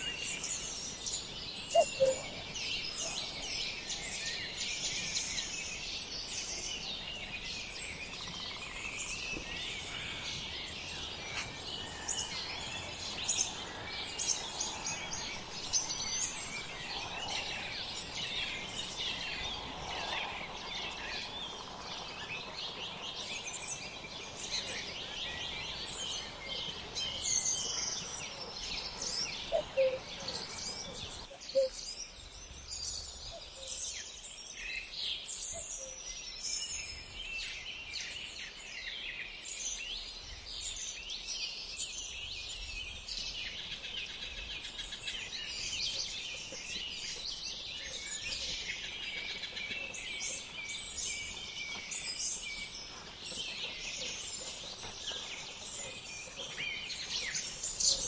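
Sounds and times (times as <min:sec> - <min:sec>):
small birds chirping: 0:00.0 - 0:34.6, 0:39.8 - 0:58.0.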